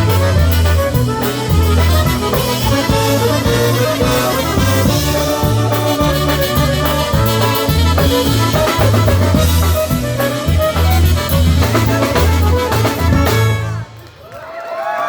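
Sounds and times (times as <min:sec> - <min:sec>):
bass line: 0:00.0 - 0:14.0
drum kit: 0:00.0 - 0:14.1
polka band playing: 0:00.0 - 0:14.2.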